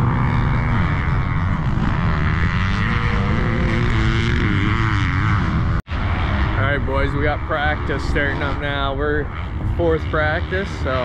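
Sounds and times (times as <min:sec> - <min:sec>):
dirt bike engines revving: 0:00.0 - 0:11.0
steady rush of noise: 0:00.0 - 0:11.0.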